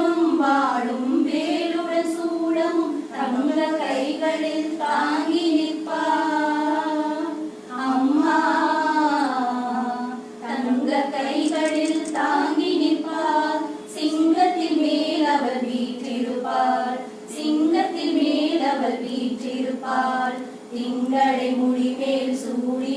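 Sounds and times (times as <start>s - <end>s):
high voices singing together: 0.0s - 22.9s.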